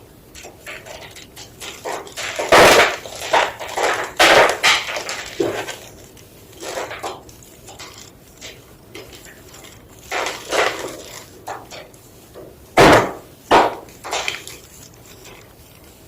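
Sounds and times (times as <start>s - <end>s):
chalk crunching and crumbling: 0.3s - 16.0s.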